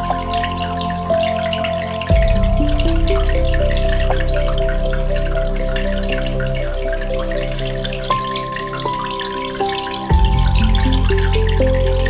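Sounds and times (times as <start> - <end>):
aquarium bubbles and water: 0.0 - 12.0
soft ambient music: 0.0 - 12.0.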